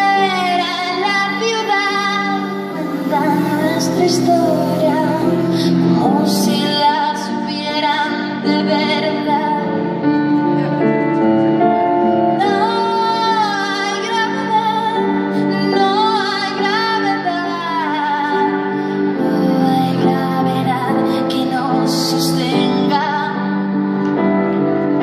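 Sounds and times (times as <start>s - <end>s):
stage keyboard playing: 0.0s - 25.0s.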